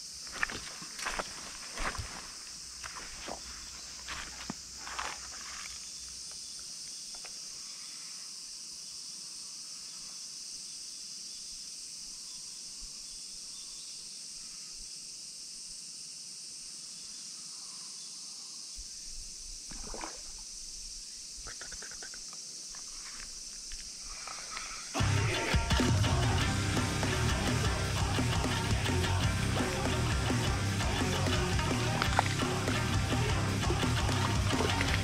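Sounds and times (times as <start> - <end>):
cicadas chorus: 0.0 - 35.0.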